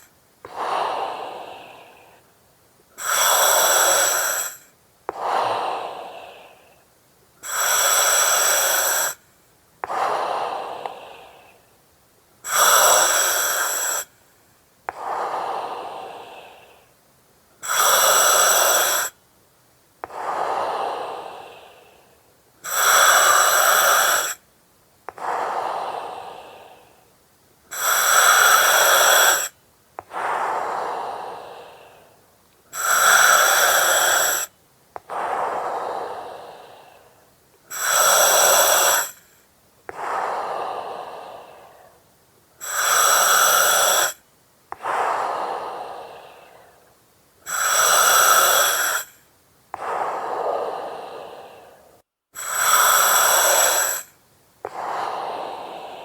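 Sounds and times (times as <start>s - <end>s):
breathing through oxygen mask: 0.0s - 2.3s, 3.0s - 6.8s, 7.4s - 9.2s, 9.8s - 11.6s, 12.4s - 14.2s, 14.9s - 17.0s, 17.6s - 19.2s, 20.0s - 24.4s, 25.1s - 27.1s, 27.7s - 49.2s, 49.8s - 56.0s.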